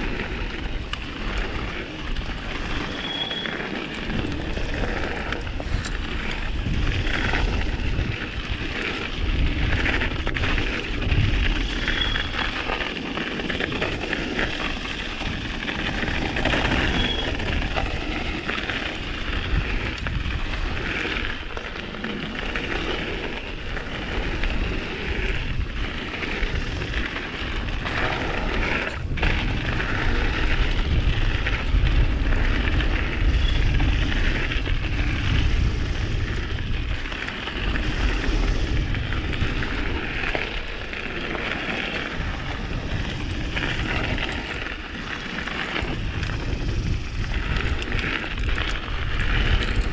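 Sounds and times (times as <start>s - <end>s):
tyres rolling over dirt: 0.0s - 49.9s
wind rushing over microphone: 0.0s - 49.9s.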